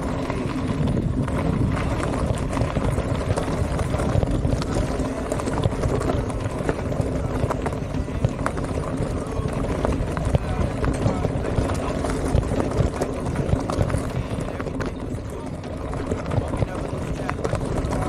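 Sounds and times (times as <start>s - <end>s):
bike knocking and rattling: 0.0s - 18.0s
bike tyres on rough trail: 0.0s - 18.0s.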